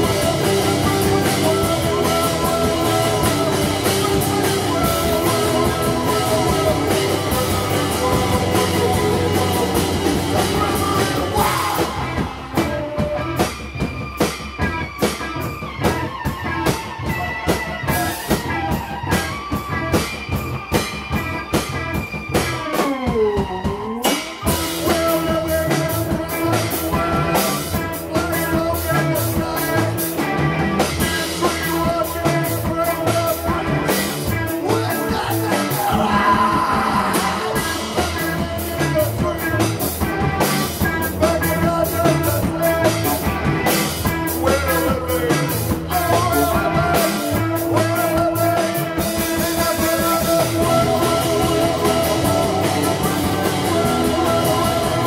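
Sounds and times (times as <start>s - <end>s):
person singing: 0.0s - 13.6s, 22.5s - 55.0s
drum kit: 0.0s - 55.0s
electric guitar: 0.0s - 55.0s
keyboard: 0.0s - 55.0s.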